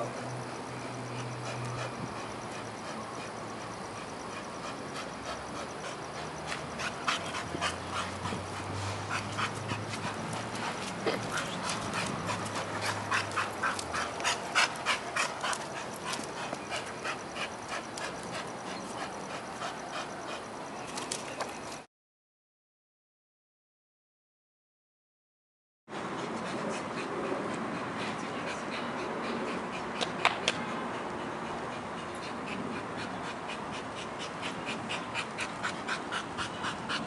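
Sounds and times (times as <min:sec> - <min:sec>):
dog panting hard: 0:00.2 - 0:20.6, 0:25.9 - 0:37.0.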